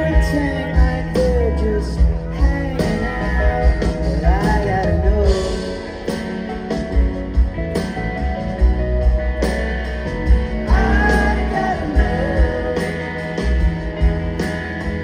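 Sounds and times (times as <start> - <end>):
electric guitar lead line: 0.0 - 15.0
live rock band playing: 0.0 - 15.0.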